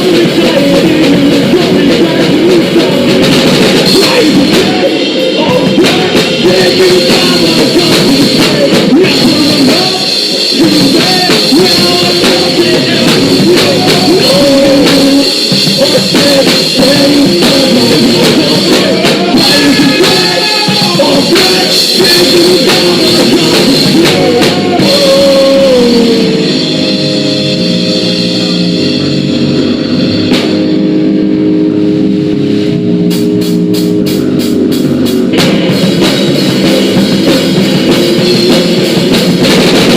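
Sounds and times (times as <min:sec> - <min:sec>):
person singing: 0:00.0 - 0:30.1, 0:36.6 - 0:39.5
drum kit: 0:00.0 - 0:39.9
electric guitar: 0:00.0 - 0:39.9.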